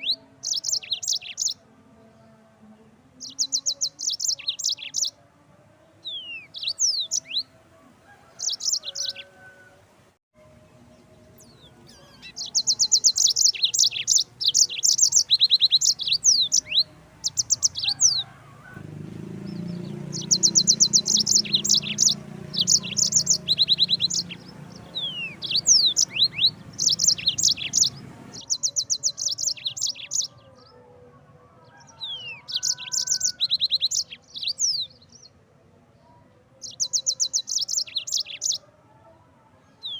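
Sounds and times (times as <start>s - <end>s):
canary singing: 0.0s - 2.1s, 3.2s - 5.2s, 5.9s - 9.8s, 10.8s - 35.4s, 36.5s - 38.7s, 39.7s - 39.9s.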